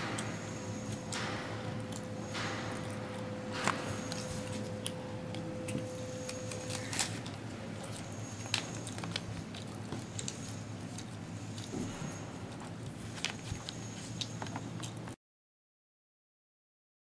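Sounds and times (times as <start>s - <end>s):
low hum: 0.0s - 14.7s.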